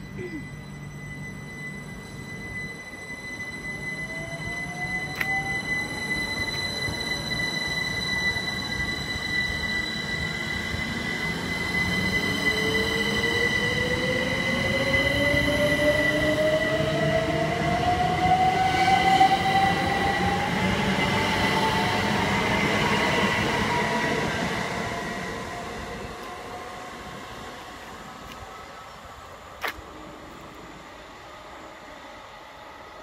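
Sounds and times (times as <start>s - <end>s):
electric train motors whining: 0.0s - 33.0s.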